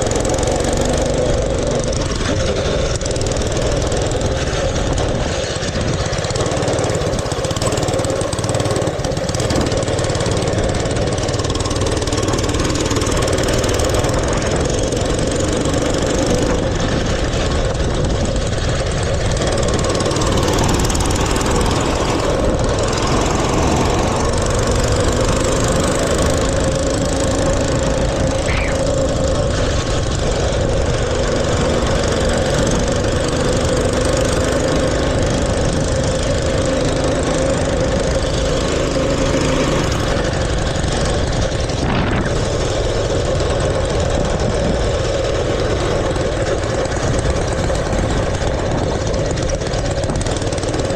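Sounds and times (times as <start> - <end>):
small engine running: 0.0 - 50.9
wind rumble on microphone: 0.0 - 50.9.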